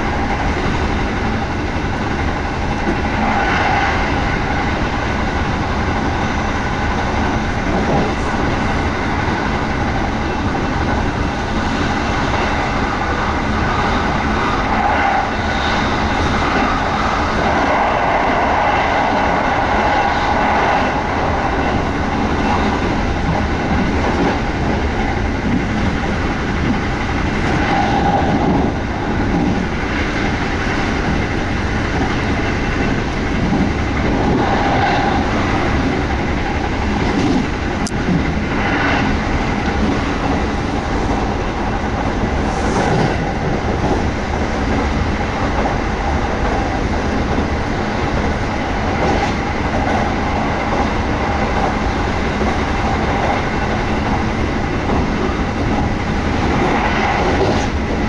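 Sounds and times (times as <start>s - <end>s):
clickety-clack over rail joints: 0.0s - 58.0s
train wheels rumbling on rail: 0.0s - 58.0s.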